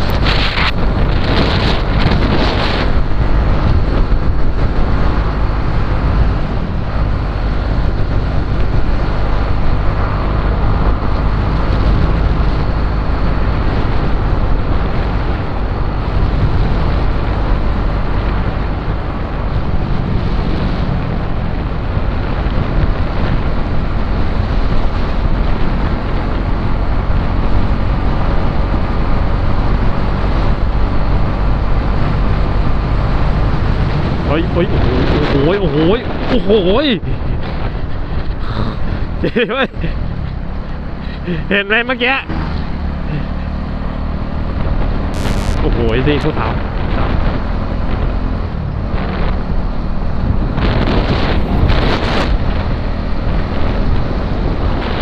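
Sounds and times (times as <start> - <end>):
wind buffeting microphone: 0.0 - 41.5, 42.3 - 55.0.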